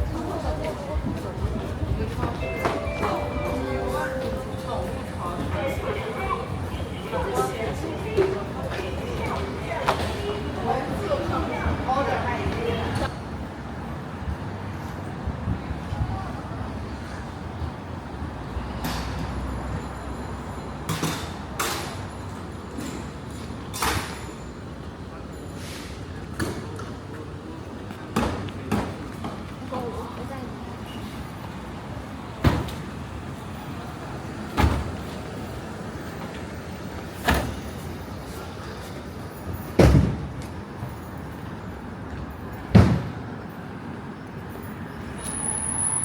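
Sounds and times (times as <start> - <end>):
low traffic rumble: 0.0 - 46.0.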